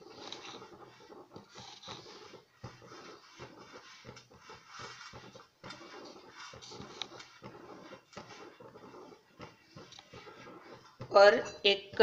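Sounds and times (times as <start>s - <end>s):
brush swishing on metal plate: 0.0s - 12.0s.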